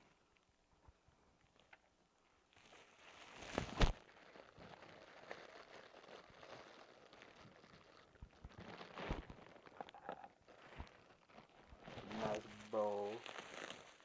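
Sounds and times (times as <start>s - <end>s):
packaging crackly rustle: 2.5s - 14.0s.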